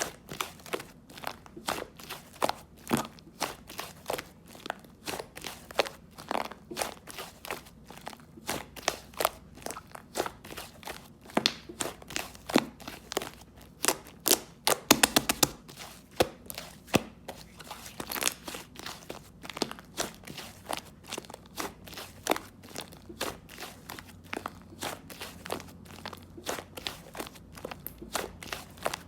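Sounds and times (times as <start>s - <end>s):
slime squished by hand: 0.0s - 29.0s.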